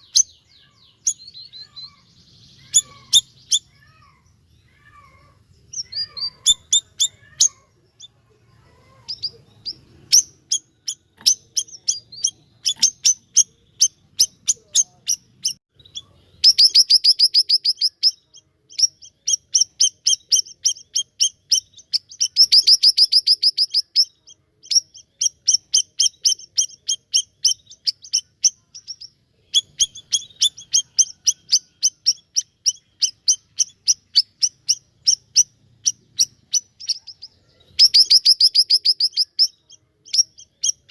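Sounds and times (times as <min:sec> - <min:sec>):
songbird chirping and trilling: 0:00.0 - 0:40.9.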